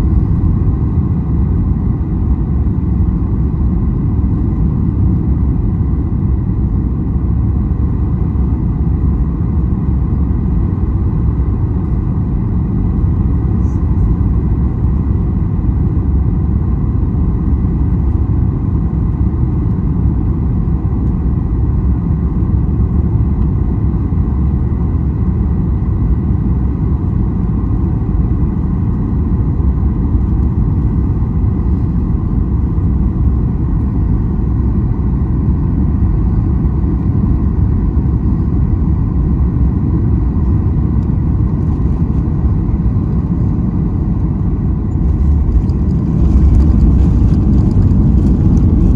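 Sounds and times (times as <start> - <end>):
airliner cabin roar: 0.0 - 48.9.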